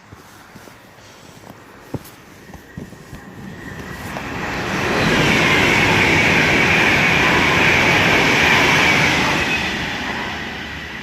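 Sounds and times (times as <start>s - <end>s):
train passing close by: 0.0s - 11.0s.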